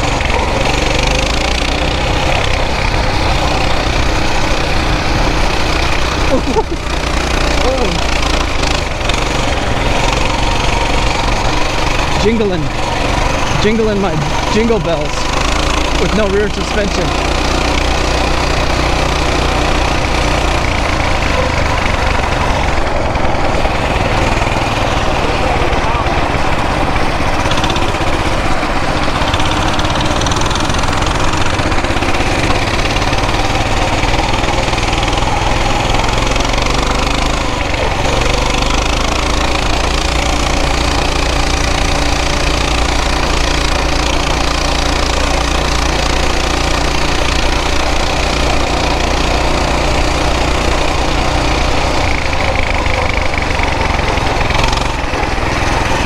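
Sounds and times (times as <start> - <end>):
mini bike engine running: 0.0 - 56.0.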